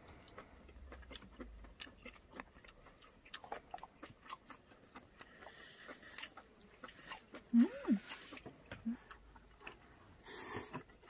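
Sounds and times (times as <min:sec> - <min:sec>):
wet chewing and lip smacks: 0:00.0 - 0:11.0.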